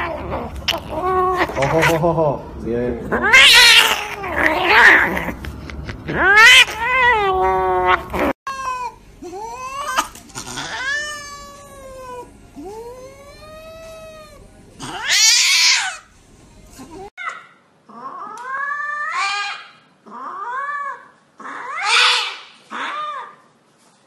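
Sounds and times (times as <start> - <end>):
cats yowling and wailing: 0.0 - 2.0, 3.1 - 16.1, 16.8 - 23.4.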